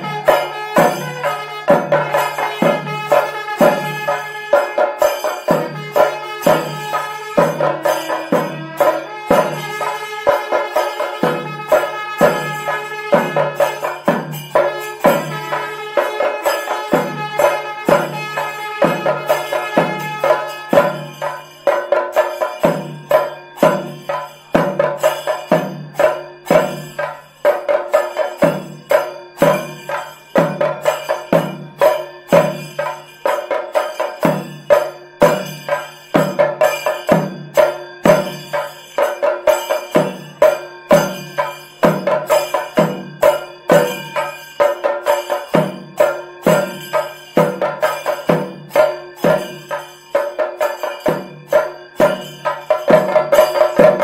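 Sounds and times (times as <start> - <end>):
drums beaten with sticks: 0.0 - 54.0
ringing metal percussion: 0.0 - 54.0.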